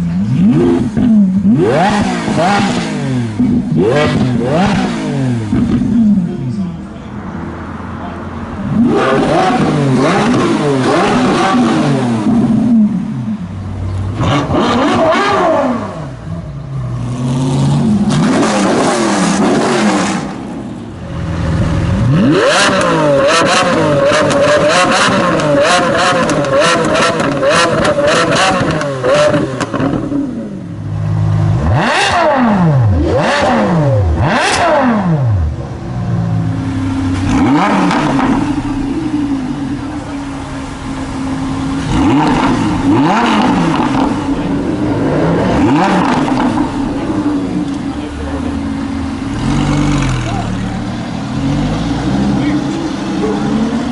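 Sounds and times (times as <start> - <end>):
car engines revving: 0.0 - 53.9
exhaust crackles: 8.5 - 53.9.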